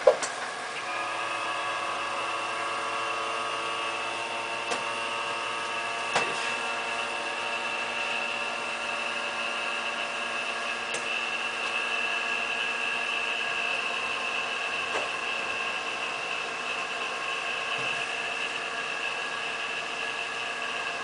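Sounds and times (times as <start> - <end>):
machine hum with high whine: 0.0 - 21.0.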